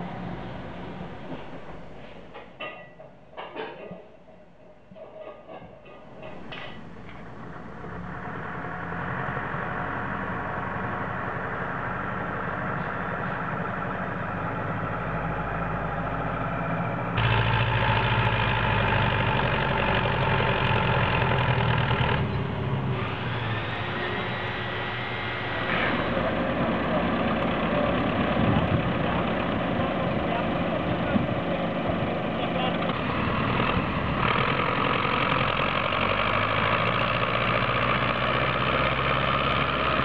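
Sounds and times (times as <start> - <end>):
diesel engines running: 0.0 - 3.6, 4.9 - 40.0.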